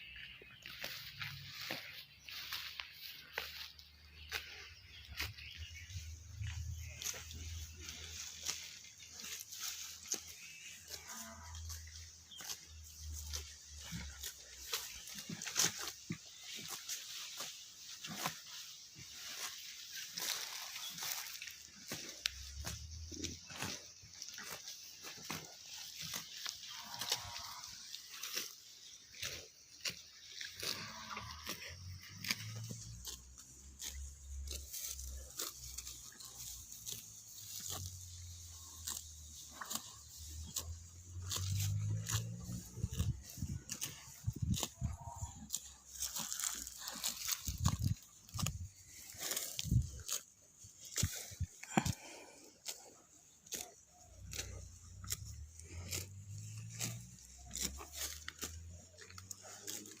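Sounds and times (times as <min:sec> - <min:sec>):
cow tearing and chewing grass: 0:00.0 - 1:00.0.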